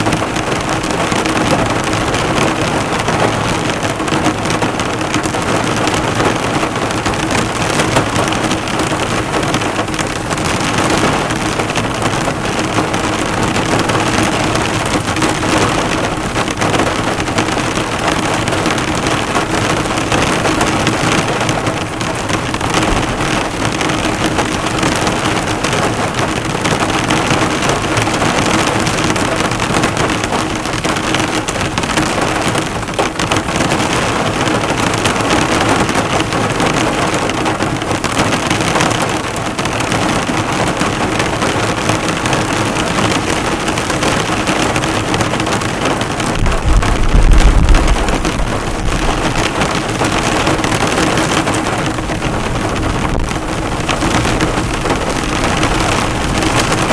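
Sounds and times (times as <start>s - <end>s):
heavy rain on a car: 0.0s - 56.9s.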